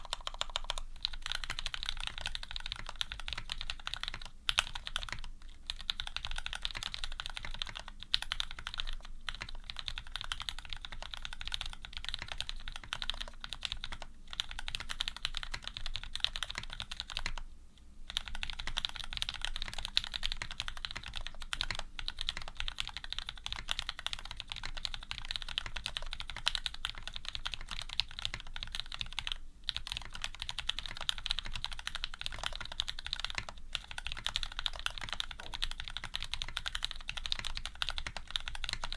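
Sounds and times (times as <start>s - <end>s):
fast typing on mechanical keyboard: 0.0s - 17.4s, 18.1s - 38.9s.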